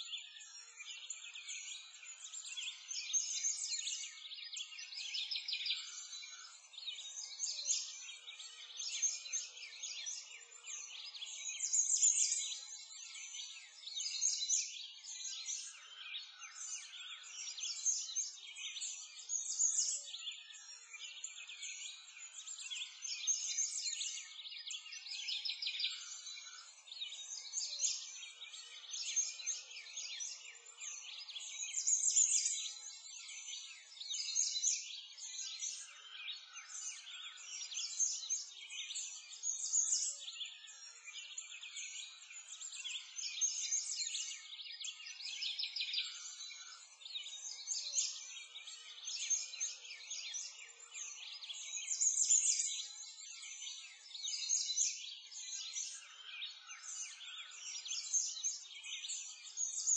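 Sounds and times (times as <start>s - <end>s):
birdsong chorus: 0.0s - 59.9s.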